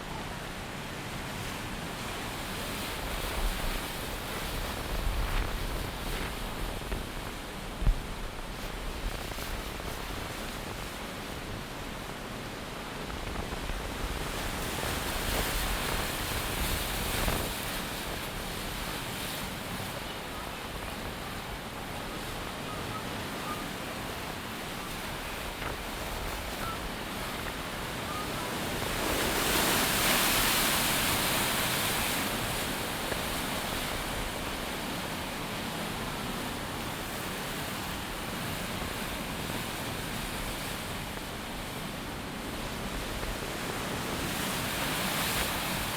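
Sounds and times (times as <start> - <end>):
wind gusting across microphone: 0.4 - 45.9.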